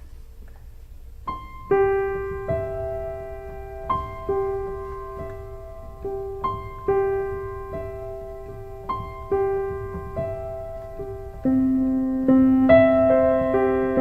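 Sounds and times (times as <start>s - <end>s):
solo piano: 0.0s - 14.0s.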